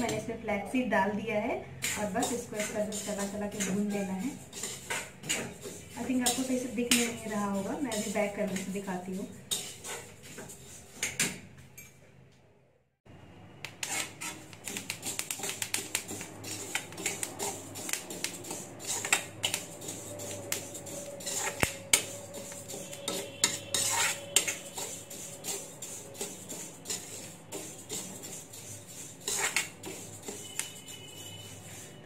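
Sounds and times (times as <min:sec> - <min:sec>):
spoon scraping metal pan: 0:01.8 - 0:11.4, 0:13.8 - 0:32.0.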